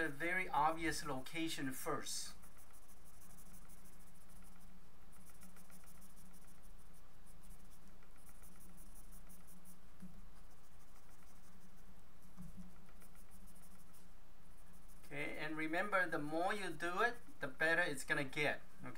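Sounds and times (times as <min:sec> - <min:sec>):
low electrical hum: 0:00.0 - 0:18.9
pencil scratching on paper: 0:00.9 - 0:17.5.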